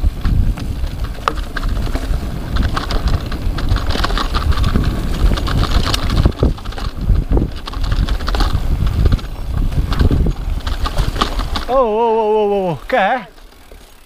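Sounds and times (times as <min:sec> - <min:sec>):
bike rattling over bumps: 0:00.0 - 0:14.0
bike tyres rolling on dirt: 0:00.0 - 0:14.0
wind rumbling on microphone: 0:00.0 - 0:14.0.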